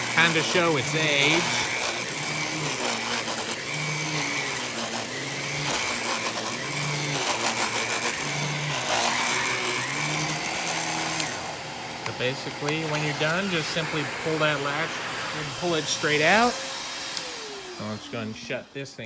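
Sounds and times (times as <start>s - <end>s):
upright vacuum cleaner running: 0.0s - 19.0s.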